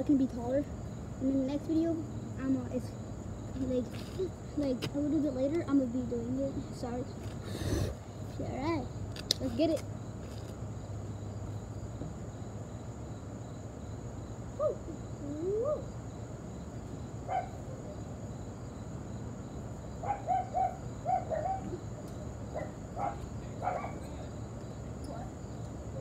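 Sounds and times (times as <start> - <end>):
insects droning: 0.0 - 26.0
low background hum: 0.0 - 26.0.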